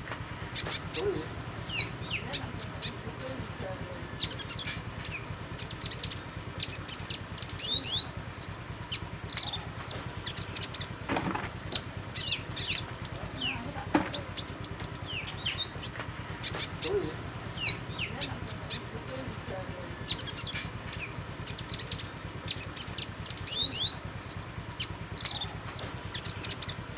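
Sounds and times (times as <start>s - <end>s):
sunbird chirping: 0.0s - 26.9s.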